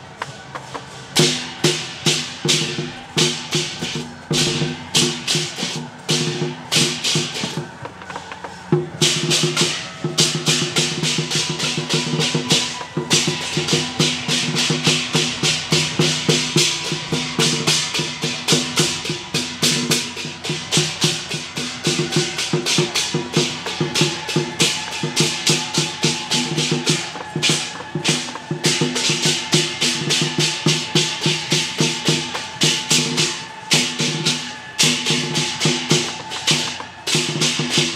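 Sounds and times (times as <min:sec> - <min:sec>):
percussion strikes: 0:00.0 - 0:37.9.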